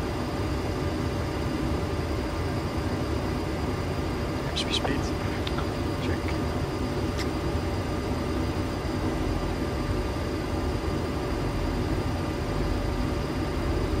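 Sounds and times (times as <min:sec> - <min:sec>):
airplane cockpit rushing drone: 0:00.0 - 0:14.0.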